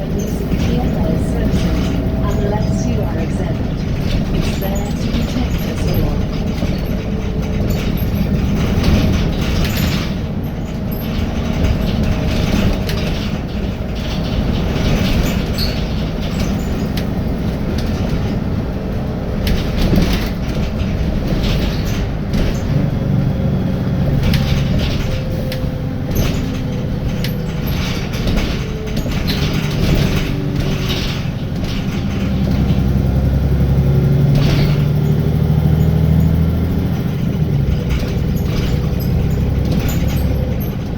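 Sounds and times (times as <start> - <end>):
bodywork clicks and rattles: 0.0 - 40.9
bus engine running: 0.0 - 40.9.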